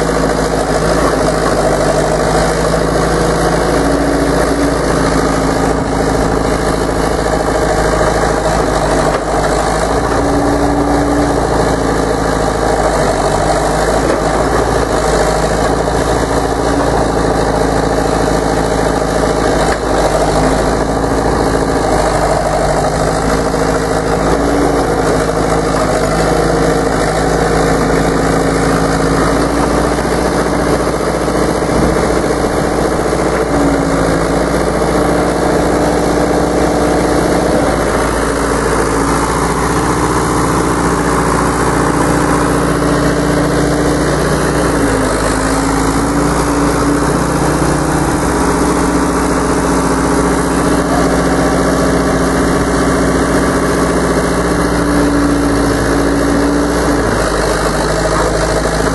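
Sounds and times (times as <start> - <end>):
excavator engine running: 0.0 - 58.9.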